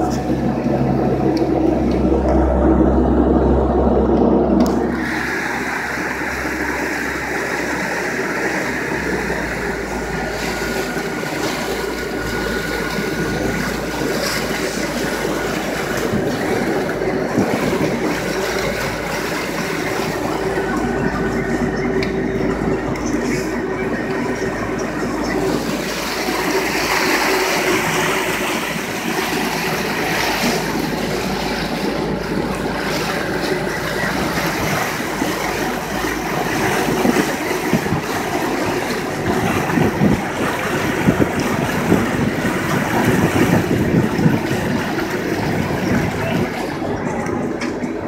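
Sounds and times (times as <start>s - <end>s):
motorboat engines running: 0.0s - 48.0s
water slapping against hull: 0.0s - 48.0s.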